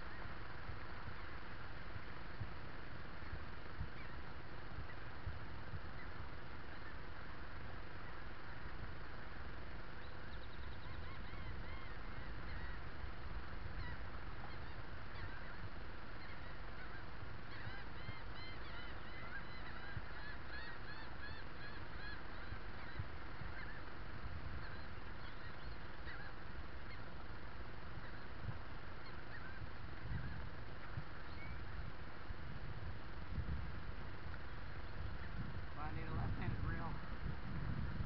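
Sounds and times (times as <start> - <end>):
birds chirping: 0.0 - 33.3, 33.9 - 37.2
steady low rumble: 0.0 - 38.0.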